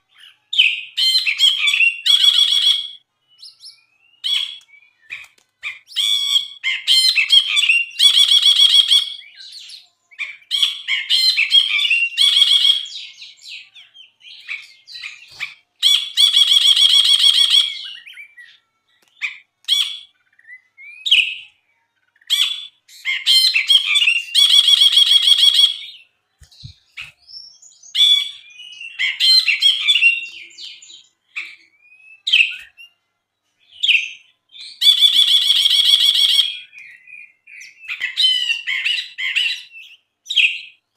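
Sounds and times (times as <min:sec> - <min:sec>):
whistled bird call notes: 0:00.2 - 0:18.6, 0:19.2 - 0:33.0, 0:33.6 - 0:40.8.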